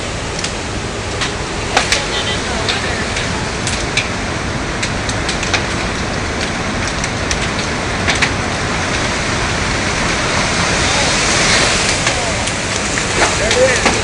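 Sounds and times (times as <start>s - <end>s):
wind and rain rushing: 0.0s - 14.0s.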